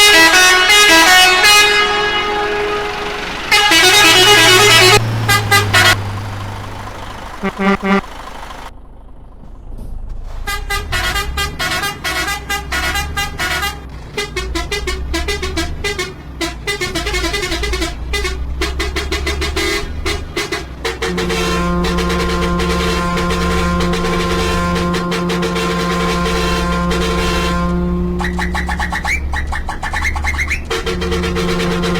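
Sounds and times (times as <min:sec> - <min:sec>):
vehicle air horn: 0:00.0 - 0:06.1, 0:07.3 - 0:08.7, 0:10.5 - 0:31.9
low engine hum: 0:00.0 - 0:31.9.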